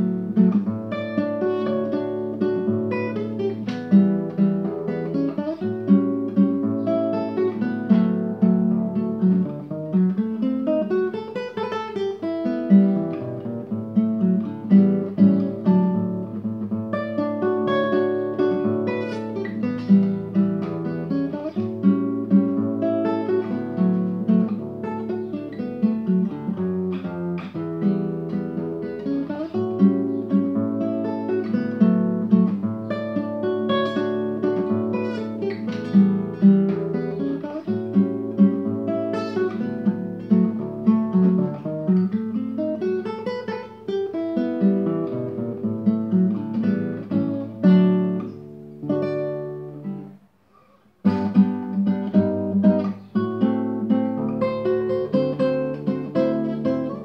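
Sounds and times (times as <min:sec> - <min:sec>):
classical guitar fingerstyle: 0:00.0 - 0:57.0.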